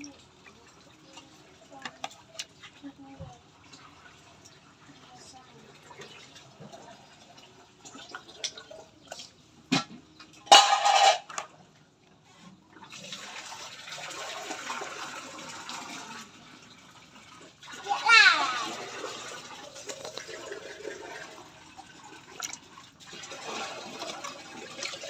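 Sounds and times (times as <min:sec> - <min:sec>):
water splashing in metal basin: 0:03.6 - 0:11.6, 0:12.7 - 0:25.0.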